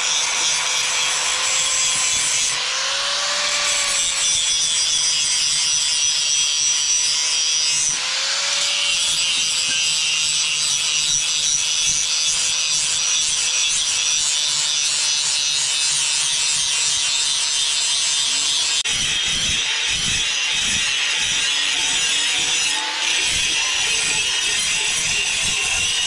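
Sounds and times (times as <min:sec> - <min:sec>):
angle grinder grinding metal: 0:00.0 - 0:26.0.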